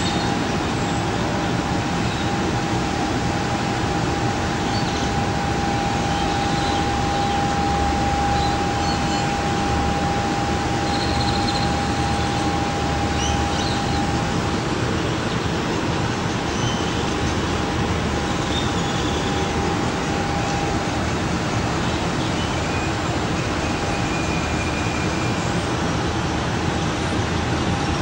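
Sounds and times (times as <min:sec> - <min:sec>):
faint high whine: 0:00.0 - 0:28.0
rushing background noise: 0:00.0 - 0:28.0.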